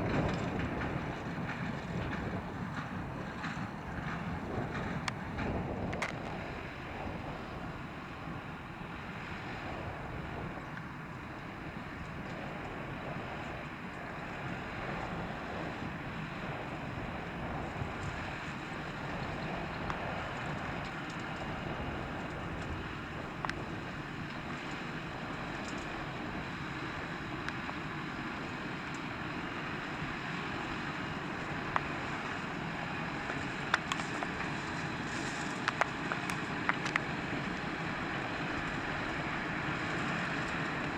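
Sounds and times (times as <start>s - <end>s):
tractor engine running: 0.0s - 40.9s
wind buffeting microphone: 0.0s - 40.9s.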